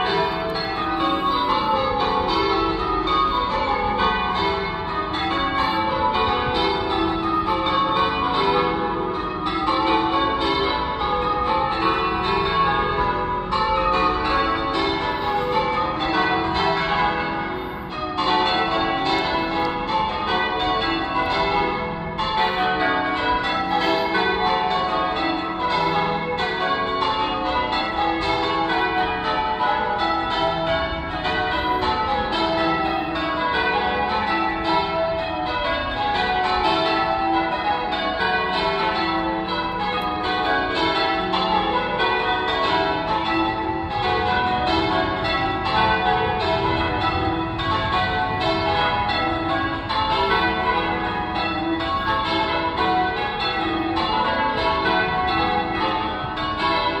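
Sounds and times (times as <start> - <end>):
church bells ringing in changes: 0.0 - 57.0.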